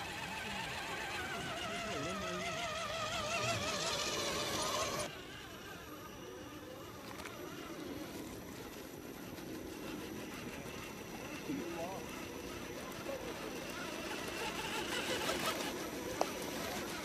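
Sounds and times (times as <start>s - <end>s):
toy truck electric motor running: 0.0s - 17.0s.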